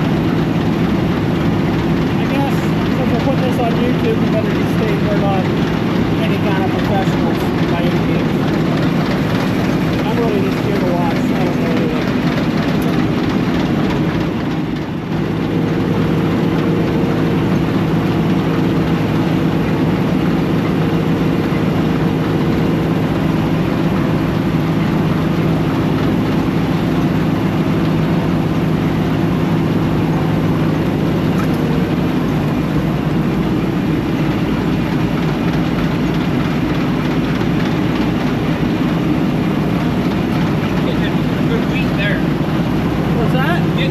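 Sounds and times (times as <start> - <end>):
combine engine drone: 0.0 - 43.9.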